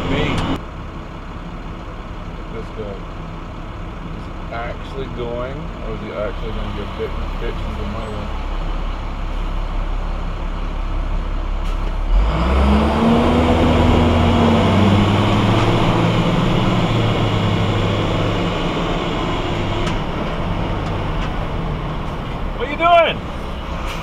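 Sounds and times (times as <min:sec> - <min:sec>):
vehicle engine idling and accelerating: 0:00.0 - 0:24.0.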